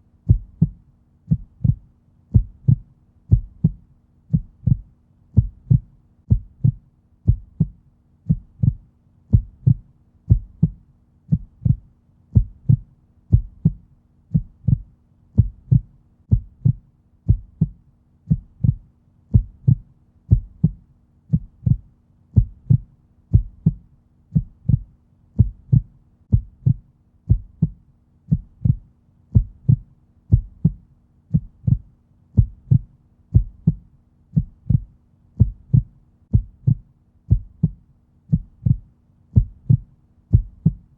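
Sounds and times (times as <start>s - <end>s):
faint low hum: 0.0s - 40.9s
heartbeat thumps: 0.3s - 40.9s.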